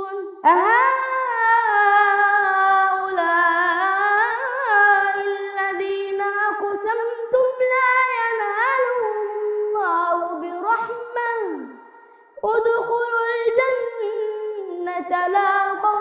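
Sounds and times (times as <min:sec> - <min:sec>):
boy reciting melodically: 0:00.0 - 0:16.0.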